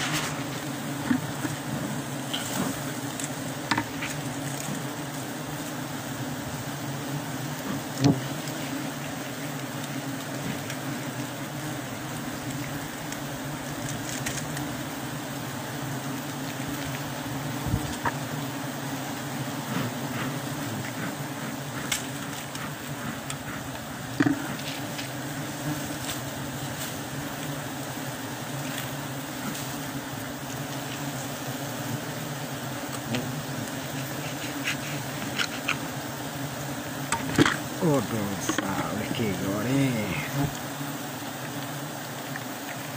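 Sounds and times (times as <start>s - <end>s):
bees buzzing: 0.0s - 42.9s.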